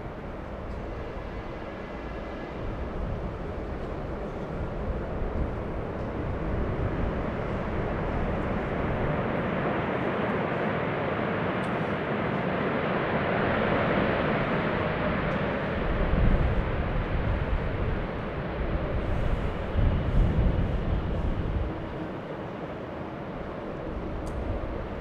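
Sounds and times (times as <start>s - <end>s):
jet airliner passing by: 0.0s - 25.0s.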